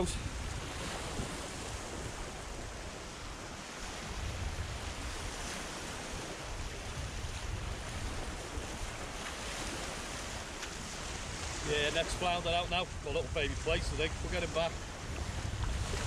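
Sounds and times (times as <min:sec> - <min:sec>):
small waves breaking on shore: 0:00.0 - 0:16.0
wind rumbling on microphone: 0:00.0 - 0:16.0.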